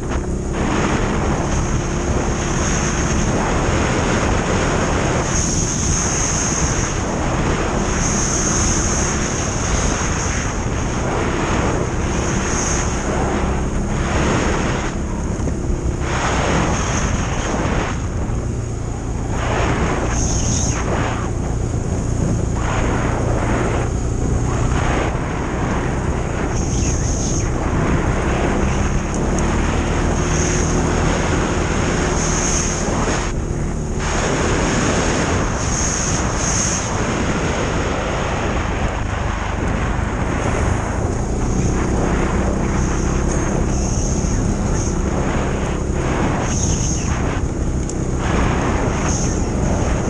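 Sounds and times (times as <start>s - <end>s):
atv engine running: 0.0s - 50.0s
wind on microphone: 0.0s - 50.0s.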